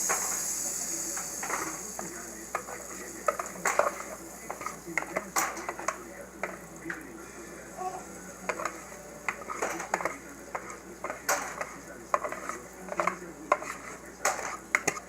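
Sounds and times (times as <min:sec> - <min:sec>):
batter sizzling in butter: 0:00.0 - 0:15.0
utensil scraping and clinking cookware: 0:00.0 - 0:15.0.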